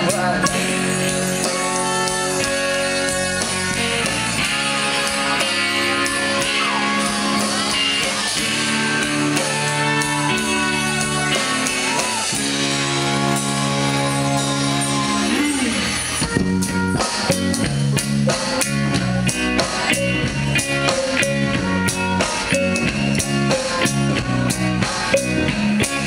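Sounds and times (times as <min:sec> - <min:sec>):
bass: 0:00.0 - 0:26.0
drums: 0:00.0 - 0:26.0
electric guitar: 0:00.0 - 0:26.0
keyboard: 0:00.0 - 0:26.0.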